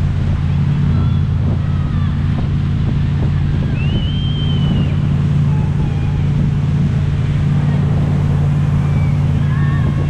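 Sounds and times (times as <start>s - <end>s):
motorboat engine running: 0.0s - 10.0s
rushing water: 0.0s - 10.0s
wind: 0.0s - 10.0s.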